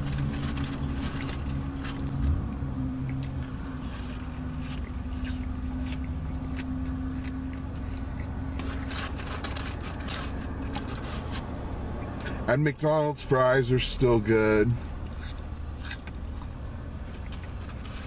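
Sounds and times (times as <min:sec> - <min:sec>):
person chewing fries: 0:00.0 - 0:12.5, 0:14.8 - 0:18.0
car engine running: 0:00.0 - 0:18.0.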